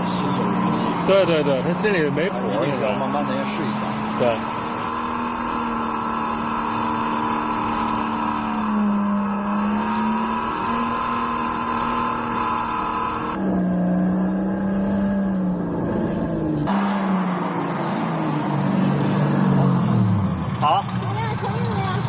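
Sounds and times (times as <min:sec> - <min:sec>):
go-kart engine revving: 0:00.0 - 0:22.0.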